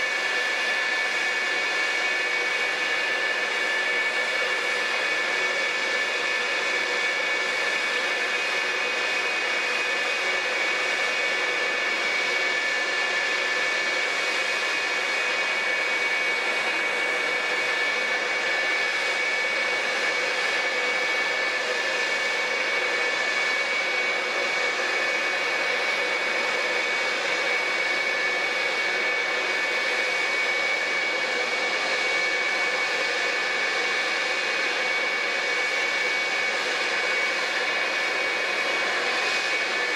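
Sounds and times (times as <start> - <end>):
jet engines idling: 0.1 - 39.9.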